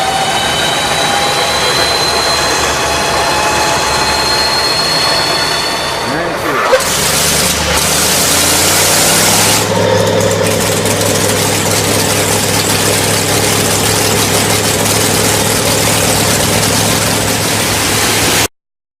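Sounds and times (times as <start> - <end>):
engine idling: 0.0 - 18.5.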